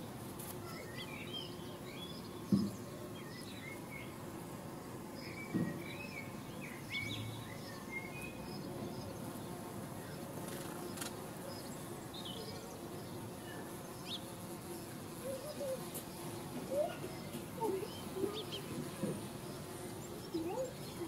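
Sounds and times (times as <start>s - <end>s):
insect buzzing: 0.0s - 21.0s.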